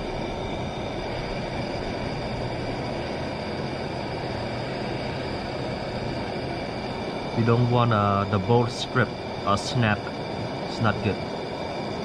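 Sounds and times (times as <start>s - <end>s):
gas torch flame blowing: 0.0s - 12.0s.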